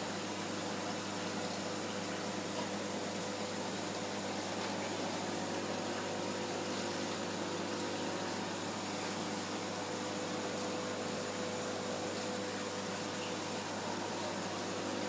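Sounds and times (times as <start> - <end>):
aquarium water pump humming: 0.0 - 15.0
water flowing from pipe: 0.0 - 15.0.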